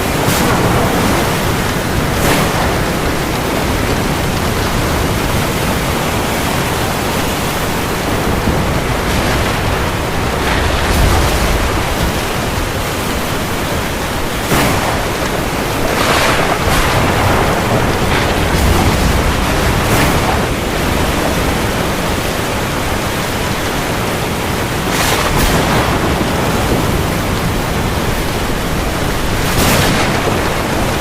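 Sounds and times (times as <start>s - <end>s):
heavy rain falling on sea: 0.0s - 31.0s.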